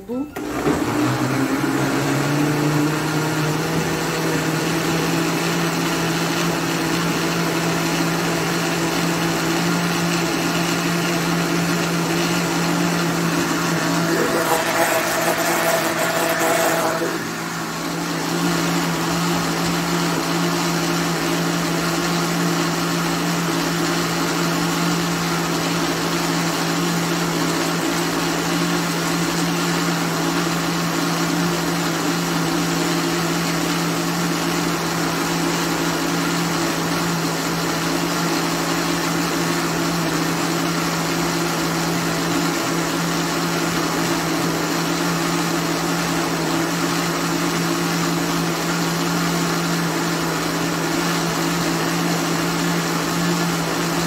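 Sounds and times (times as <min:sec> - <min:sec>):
blender motor running: 0:00.0 - 0:54.0.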